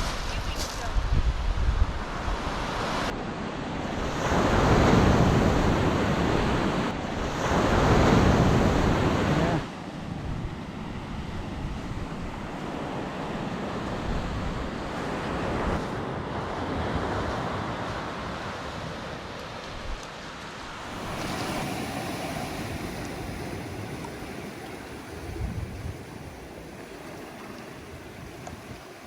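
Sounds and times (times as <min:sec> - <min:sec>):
wind on microphone: 0:00.0 - 0:29.0
surf washing onto beach: 0:01.9 - 0:29.0.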